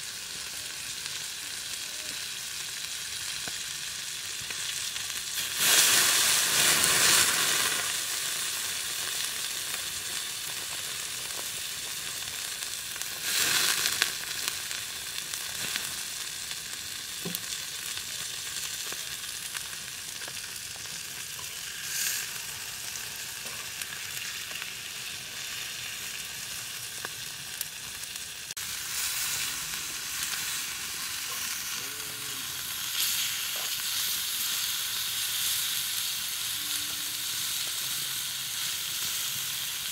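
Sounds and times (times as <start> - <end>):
chicken sizzling on hot stone: 0.0 - 39.9.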